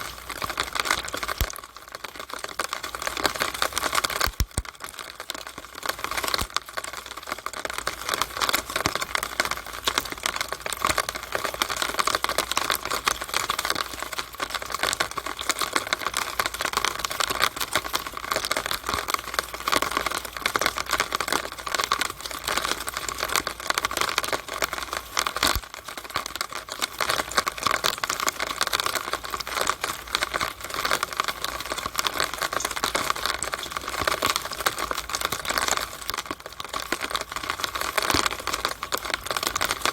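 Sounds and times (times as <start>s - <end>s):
rainwater dripping in a downspout: 0.0s - 39.9s.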